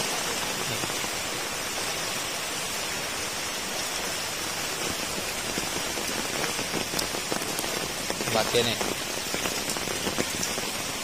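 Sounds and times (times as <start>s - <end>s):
heavy rain downpour: 0.0s - 11.0s.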